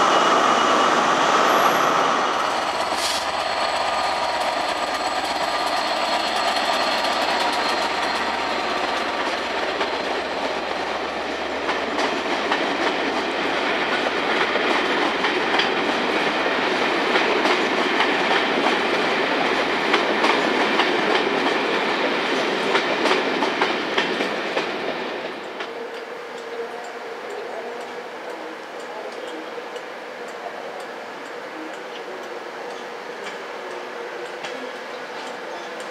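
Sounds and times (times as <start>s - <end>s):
train running on track: 0.0s - 35.9s.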